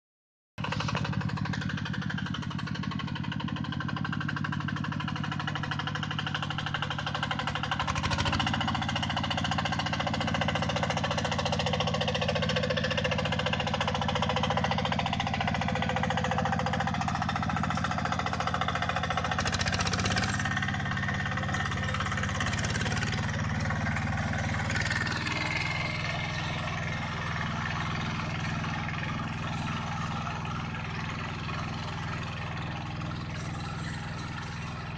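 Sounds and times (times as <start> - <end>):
tractor engine driving tiller: 0.6 - 34.9.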